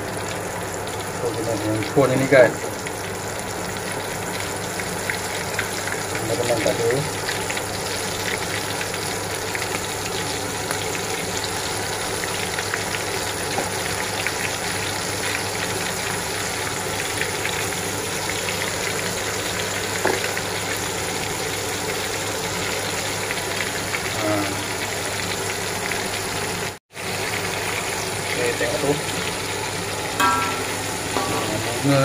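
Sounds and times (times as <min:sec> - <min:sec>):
food deep-frying in oil: 0:00.0 - 0:32.0.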